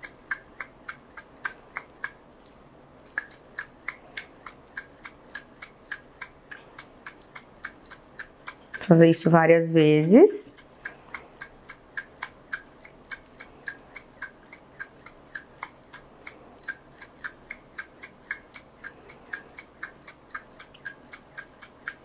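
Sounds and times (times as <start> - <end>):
syringe clicking: 0.0 - 2.2, 3.0 - 22.0.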